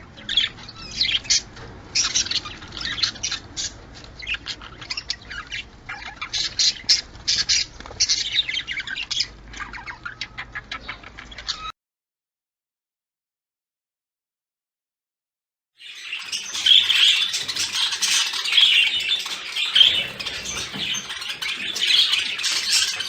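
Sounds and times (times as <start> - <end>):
budgerigars chattering: 0.1 - 11.7, 15.8 - 23.0.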